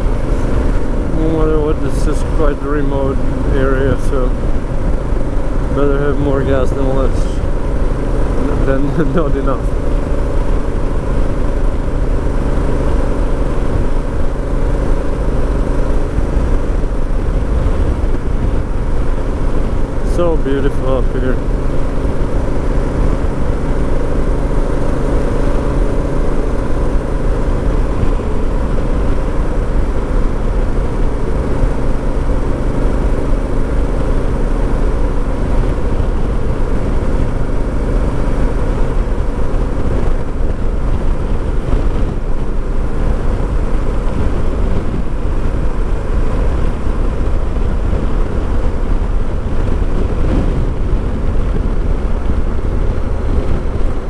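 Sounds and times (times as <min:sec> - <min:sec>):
motorcycle engine humming: 0:00.0 - 0:54.0
wind rush on microphone: 0:00.0 - 0:54.0.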